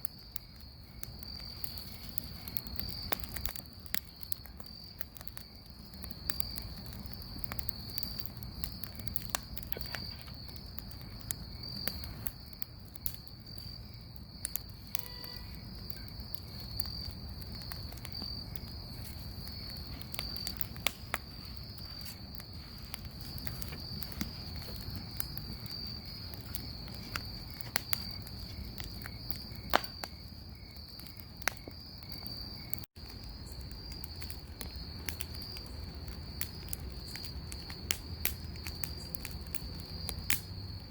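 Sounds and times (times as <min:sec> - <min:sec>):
bonfire crackling: 0:00.0 - 0:40.9
crickets chirring: 0:00.0 - 0:40.9.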